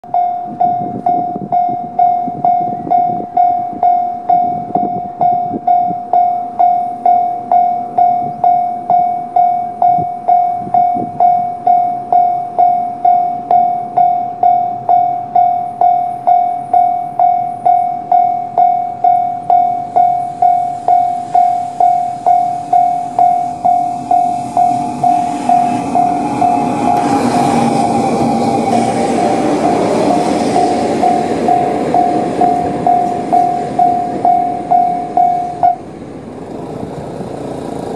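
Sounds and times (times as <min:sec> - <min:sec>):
level-crossing warning bell: 0:00.0 - 0:36.1
freight train rumble: 0:00.0 - 0:37.9.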